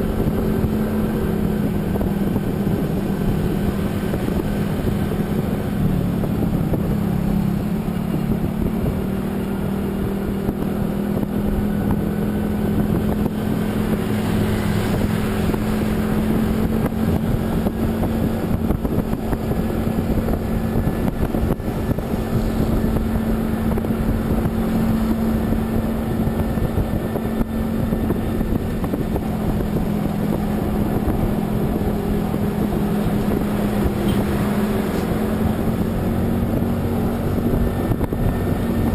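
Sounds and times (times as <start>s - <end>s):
road and wind noise: 0.0s - 38.9s
vehicle engine running: 0.0s - 38.9s.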